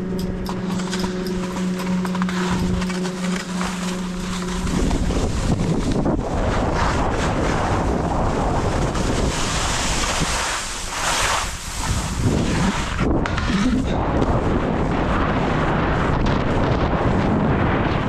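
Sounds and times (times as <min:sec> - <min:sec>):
wind buffeting microphone: 0:00.0 - 0:18.0
skis scraping through slush: 0:02.0 - 0:17.8.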